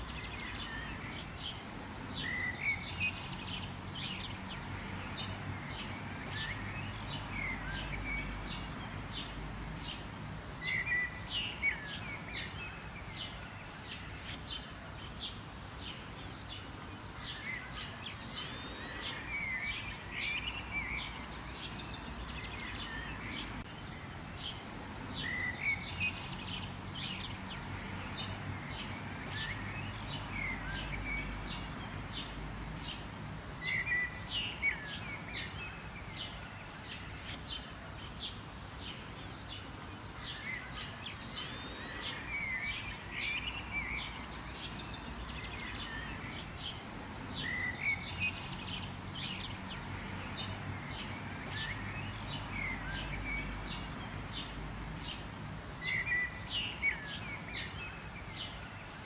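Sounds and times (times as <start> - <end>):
background hiss: 0.0 - 59.0
birds chirping: 0.0 - 59.0.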